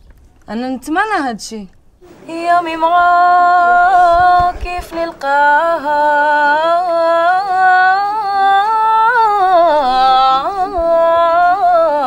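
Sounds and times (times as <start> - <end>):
person singing unaccompanied: 2.0 - 12.0.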